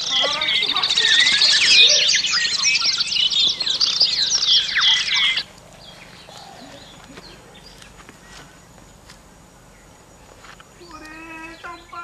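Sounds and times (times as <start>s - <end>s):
small birds chattering: 0.0s - 12.0s.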